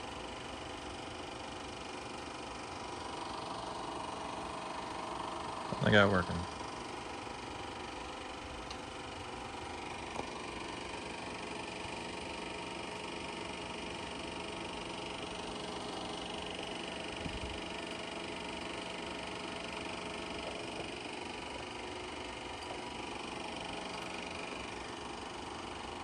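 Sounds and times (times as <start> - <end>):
film projector running: 0.0 - 26.0.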